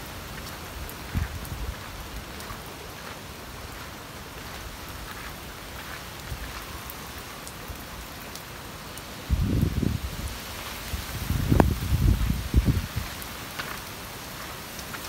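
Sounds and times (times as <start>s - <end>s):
faint ticks of raindrops: 0.0s - 15.0s
rain hissing: 0.0s - 15.0s.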